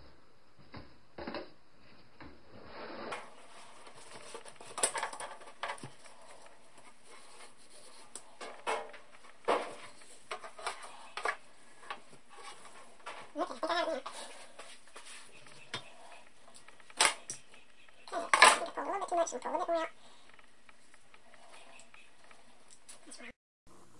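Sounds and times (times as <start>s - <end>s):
bamboo stick shade rattling: 2.7s - 23.0s.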